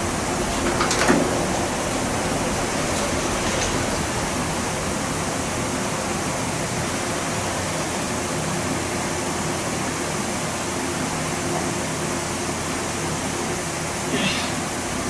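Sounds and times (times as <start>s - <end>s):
electric fan air rush: 0.0s - 15.0s
fan motor hum: 0.0s - 15.0s.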